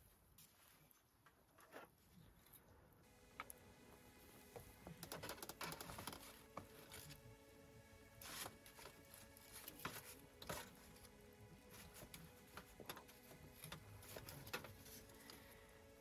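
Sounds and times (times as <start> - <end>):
wood fire crackling: 3.2 - 16.0.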